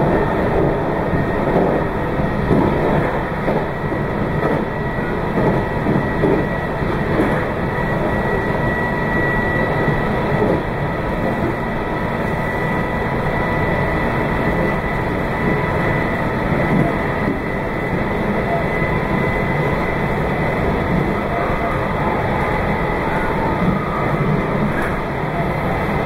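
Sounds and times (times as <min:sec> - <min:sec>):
thin steady whine: 0:00.0 - 0:26.0
train wheels rumbling: 0:00.0 - 0:26.0.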